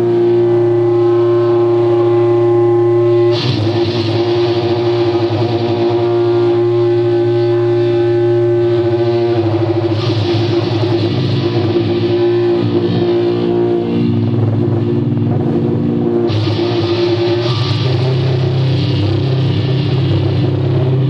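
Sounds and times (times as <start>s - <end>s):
distorted electric guitar chord: 0.0s - 21.0s.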